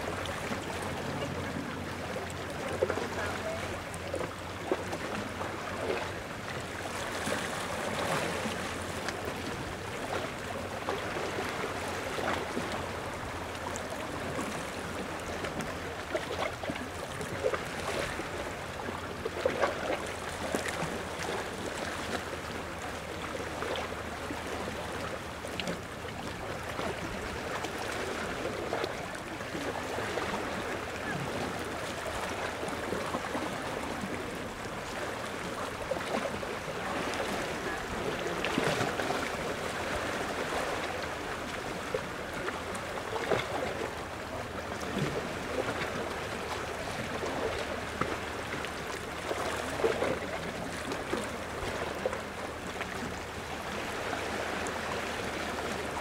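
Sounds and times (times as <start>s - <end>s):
small waves lapping at shore: 0.0s - 56.0s.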